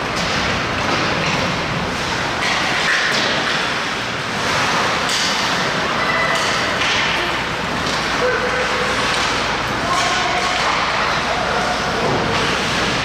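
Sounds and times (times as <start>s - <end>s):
rink background noise: 0.0s - 13.0s
skates scraping on ice: 1.9s - 7.1s, 7.7s - 13.0s.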